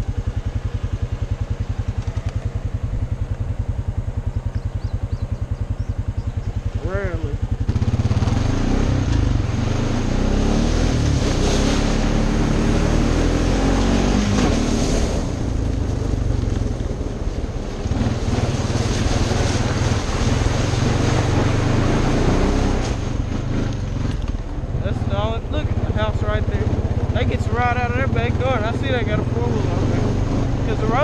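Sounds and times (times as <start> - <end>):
atv engine under throttle: 0.0 - 31.0.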